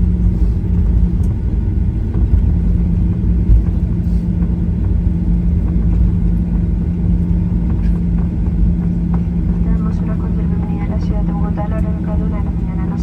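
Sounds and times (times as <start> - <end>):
airplane cabin rumble: 0.0 - 13.0
engine hum: 0.0 - 13.0.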